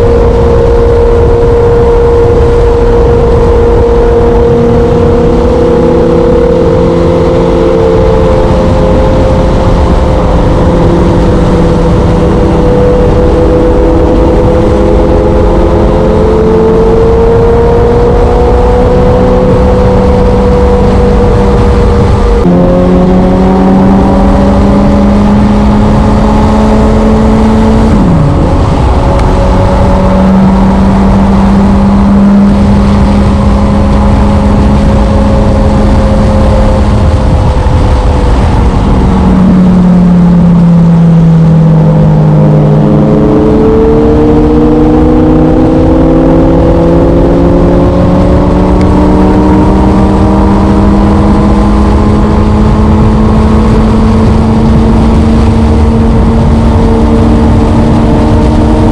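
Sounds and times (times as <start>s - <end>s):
low rushing noise: 0.0s - 58.9s
motorcycle engine running: 0.0s - 58.9s.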